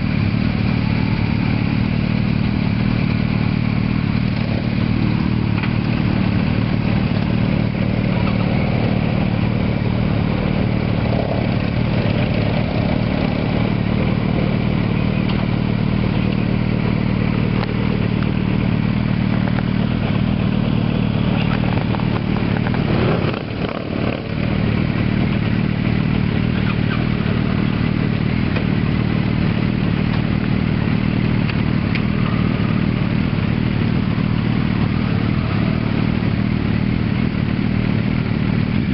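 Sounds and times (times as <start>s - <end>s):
motorcycle engines idling: 0.0s - 38.9s.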